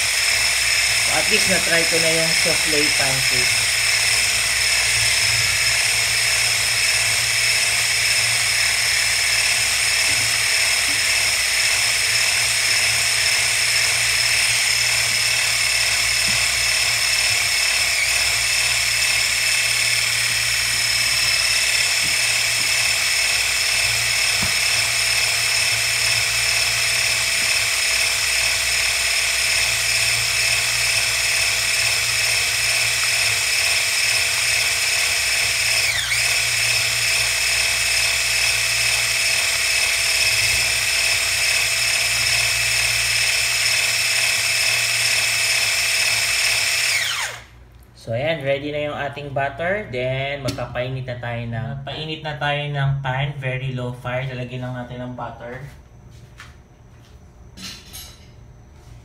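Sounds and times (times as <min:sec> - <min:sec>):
hand blender motor whine: 0:00.0 - 0:47.6.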